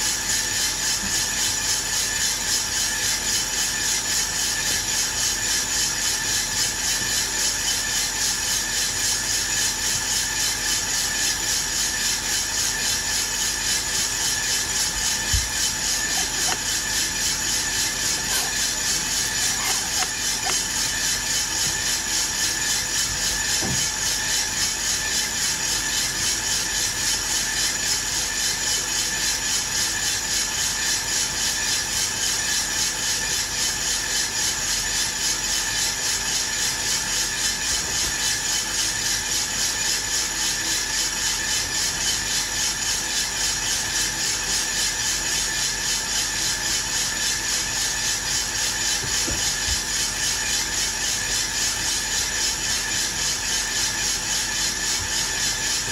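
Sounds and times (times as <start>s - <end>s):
coffee beans rattling in drum: 0.0s - 55.9s
fan and motor whine: 0.0s - 55.9s.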